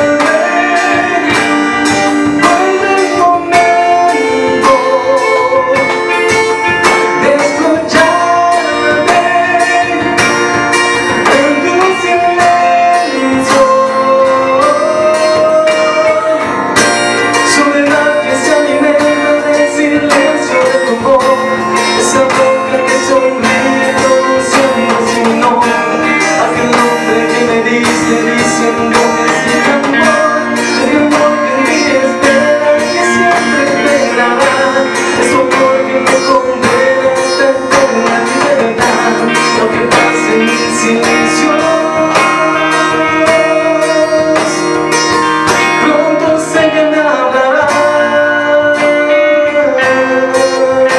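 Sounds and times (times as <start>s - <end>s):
acoustic guitar music: 0.0s - 50.9s.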